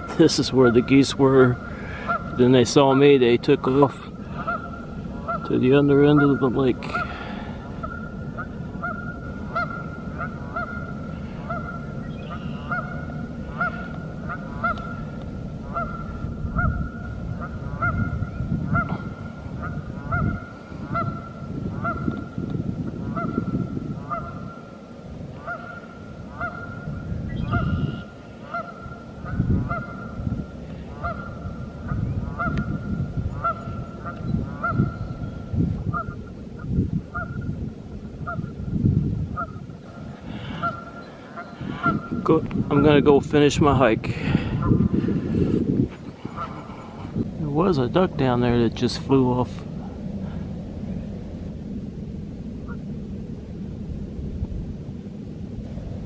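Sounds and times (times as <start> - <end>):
geese honking: 0.0 - 37.6, 38.2 - 38.6, 39.3 - 45.2, 46.2 - 47.2
low rumbling: 0.0 - 56.0.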